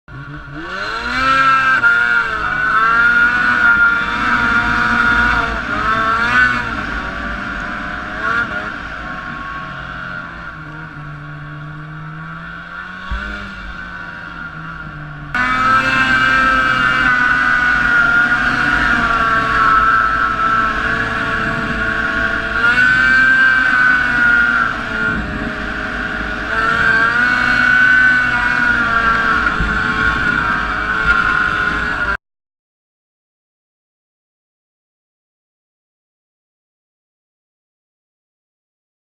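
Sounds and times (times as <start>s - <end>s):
snowmobile engine revving: 0.1s - 32.2s.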